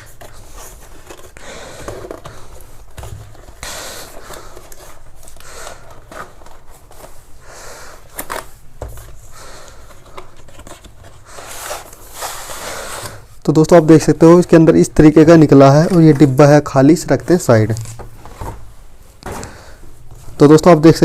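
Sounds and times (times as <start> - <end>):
cardboard rustling: 0.0 - 7.4, 8.1 - 20.6.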